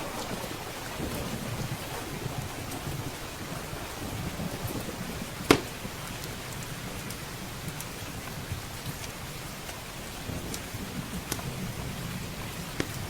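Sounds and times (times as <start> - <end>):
rain on windows and roof: 0.0 - 13.0
wood fire crackling: 0.0 - 13.0.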